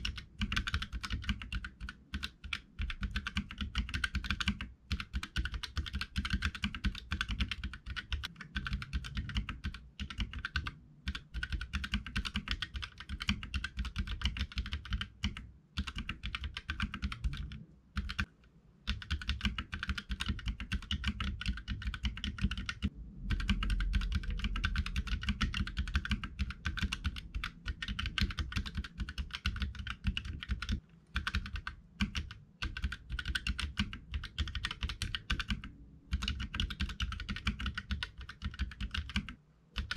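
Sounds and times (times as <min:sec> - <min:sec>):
fast typing on mechanical keyboard: 0:00.0 - 0:18.3, 0:18.9 - 0:39.9.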